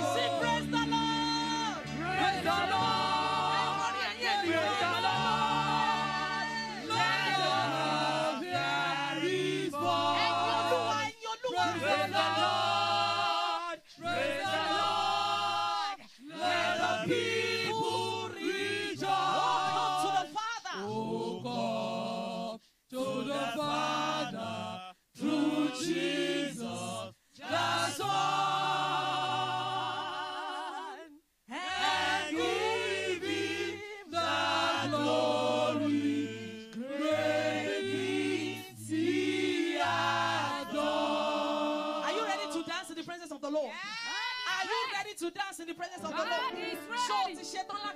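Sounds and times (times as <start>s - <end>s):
church choir singing: 0.0s - 42.9s.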